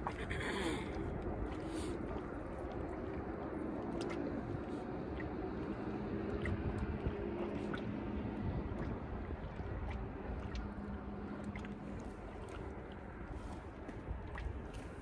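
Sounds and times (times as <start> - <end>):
low engine hum: 0.0 - 15.0
low rumble: 0.0 - 15.0.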